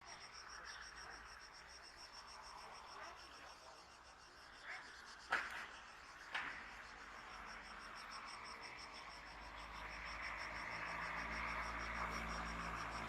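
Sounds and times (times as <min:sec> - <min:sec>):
insects chirping in pulsed trill: 0:00.1 - 0:13.0.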